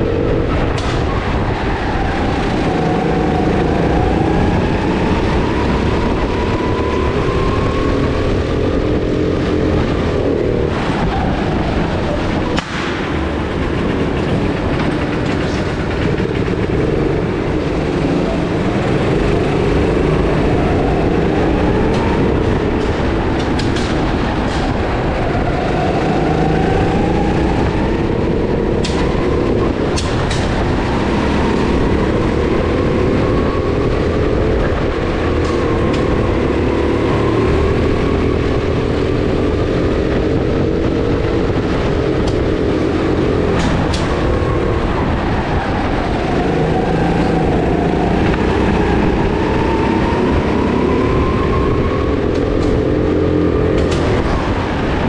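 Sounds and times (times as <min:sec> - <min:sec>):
go-kart motor at speed: 0:00.0 - 0:55.0.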